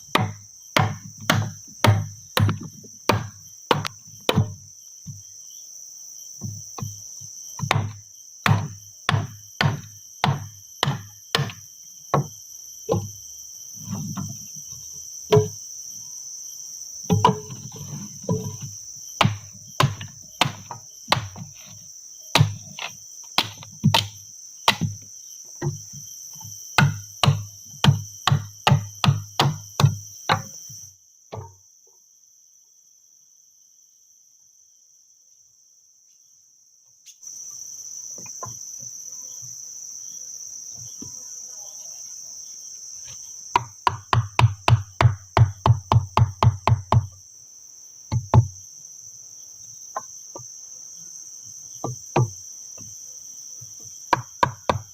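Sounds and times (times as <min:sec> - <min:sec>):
forest insects droning: 0:00.0 - 0:54.9.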